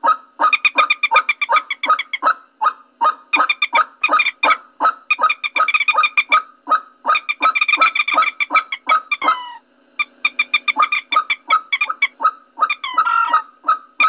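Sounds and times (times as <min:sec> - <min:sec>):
moorhen calling: 0:00.0 - 0:14.0.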